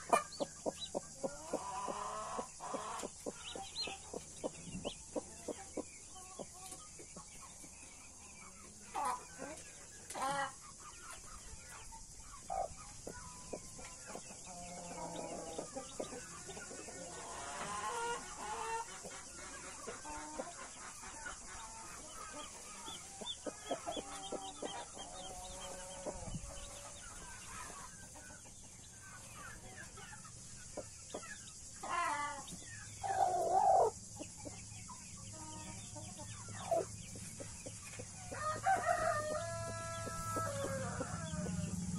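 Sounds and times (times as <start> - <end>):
hen clucking: 0.0 - 7.0, 8.5 - 11.4, 12.3 - 41.9
chickens calling: 0.0 - 41.9.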